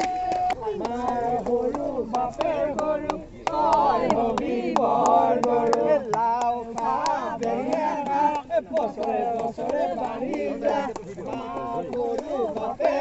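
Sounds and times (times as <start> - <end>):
group of voices chanting: 0.0 - 13.0
sharp rhythmic clicks: 0.0 - 13.0.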